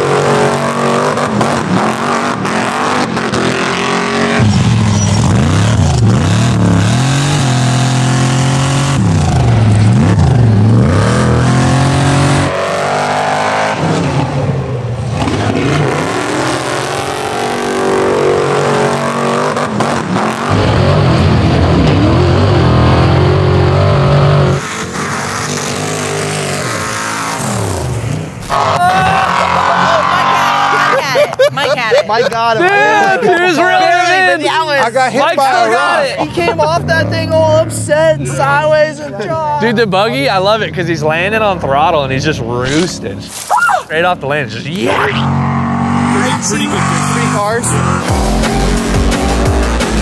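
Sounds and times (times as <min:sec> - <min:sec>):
off-road engines revving hard: 0:00.0 - 0:50.0.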